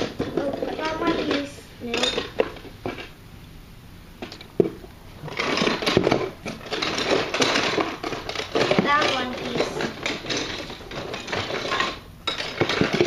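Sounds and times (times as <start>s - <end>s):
toy pieces rustling: 0.0s - 3.1s, 5.2s - 13.0s.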